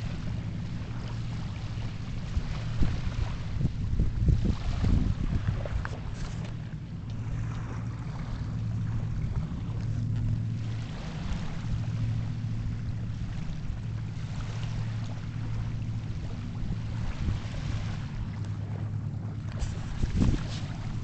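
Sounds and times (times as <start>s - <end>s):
low engine drone: 0.0s - 21.0s.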